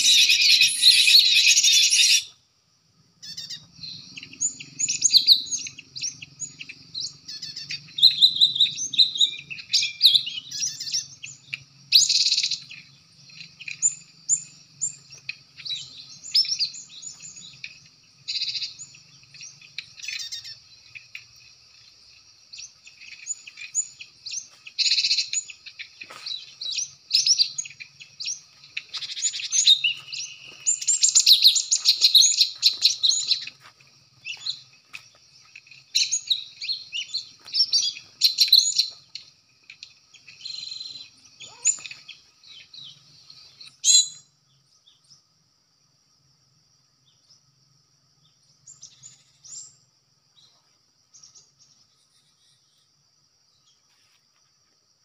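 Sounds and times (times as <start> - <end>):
birds chirping and trilling: 0.0 - 2.4, 3.2 - 45.2, 48.2 - 49.8.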